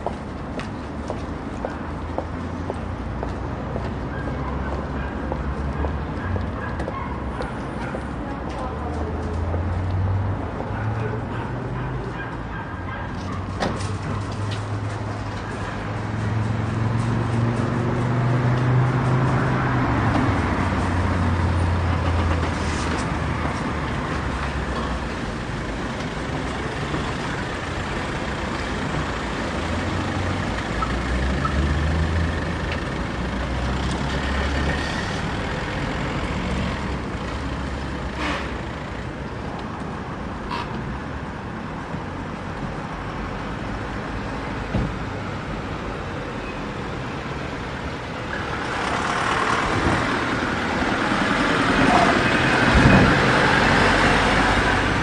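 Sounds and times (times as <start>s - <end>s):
city traffic noise: 0.0s - 55.0s
vehicle engines rumbling: 0.0s - 55.0s.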